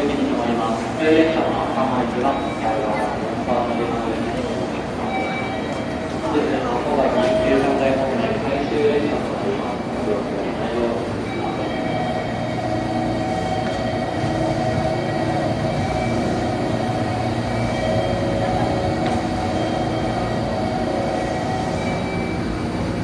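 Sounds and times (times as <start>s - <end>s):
train equipment humming and whining: 0.0s - 23.0s.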